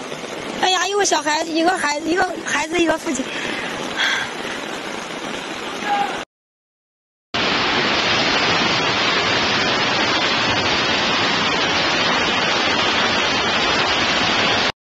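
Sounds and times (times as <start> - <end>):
rushing floodwater: 0.0 - 6.2, 7.4 - 14.7.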